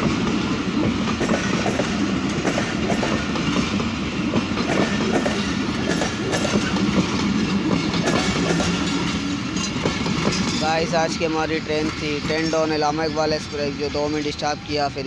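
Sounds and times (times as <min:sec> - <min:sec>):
train coaches rumbling past: 0:00.0 - 0:15.0.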